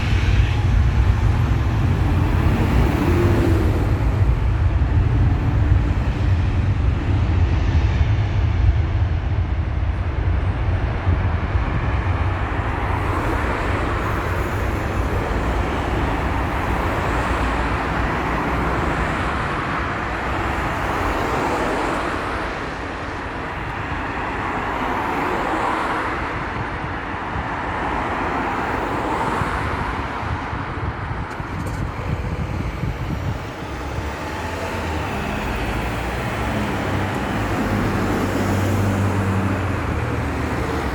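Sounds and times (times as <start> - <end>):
jet engines at take-off: 0.0 - 40.9.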